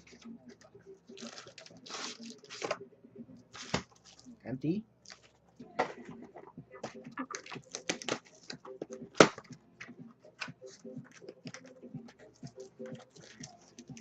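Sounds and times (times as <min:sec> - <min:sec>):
cards and packaging clicking and rustling: 0:00.0 - 0:02.8, 0:03.5 - 0:04.3, 0:05.0 - 0:14.0.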